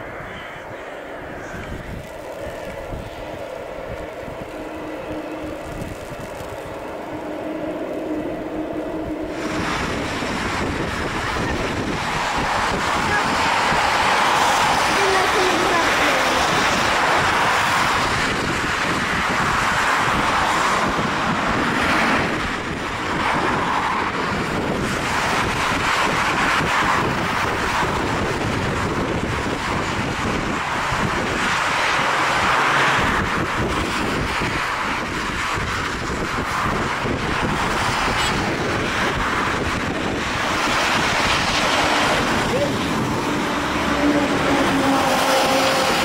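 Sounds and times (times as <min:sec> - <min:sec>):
jet engines rushing: 0:00.0 - 0:46.0
wind buffeting microphone: 0:00.0 - 0:46.0.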